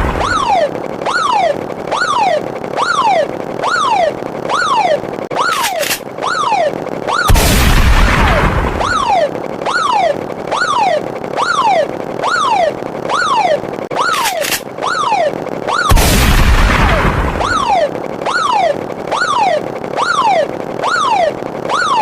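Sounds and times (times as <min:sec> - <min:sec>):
falling-pitch pew sound effect: 0:00.0 - 0:22.0.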